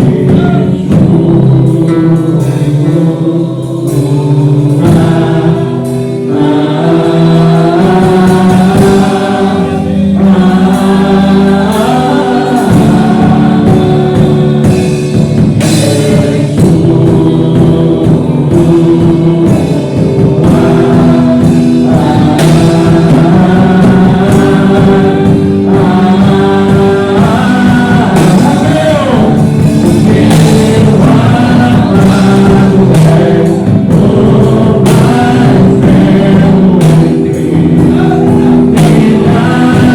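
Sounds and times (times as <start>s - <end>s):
gospel singers holding long notes: 0.0s - 39.9s
instrumental accompaniment: 0.0s - 39.9s.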